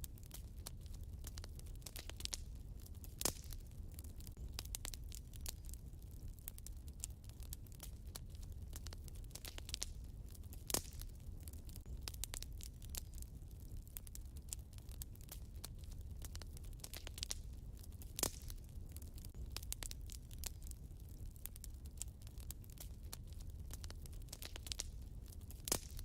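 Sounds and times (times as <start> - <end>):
loud fire pops: 0.0 - 26.0
wood fire crackling: 0.0 - 26.0.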